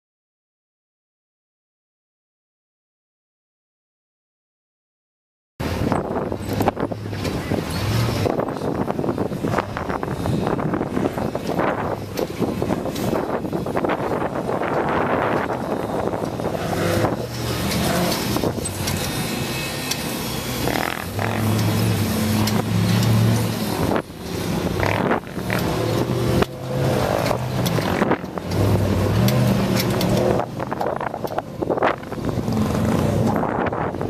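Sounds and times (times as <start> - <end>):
racing car engine revving: 5.8 - 33.9.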